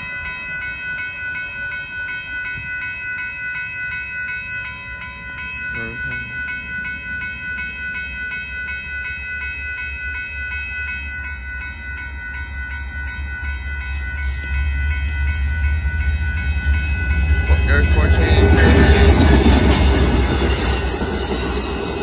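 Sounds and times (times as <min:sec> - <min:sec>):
low train rumble: 0:00.0 - 0:22.0
railroad crossing bell ringing: 0:00.0 - 0:22.0.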